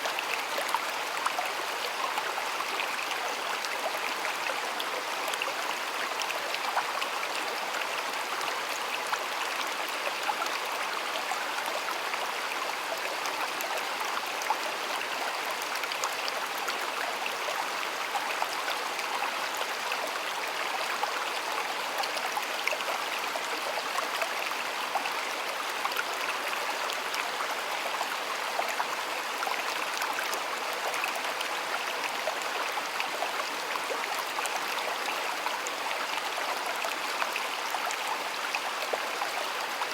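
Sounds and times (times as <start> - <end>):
stream babbling over stones: 0.1 - 39.9.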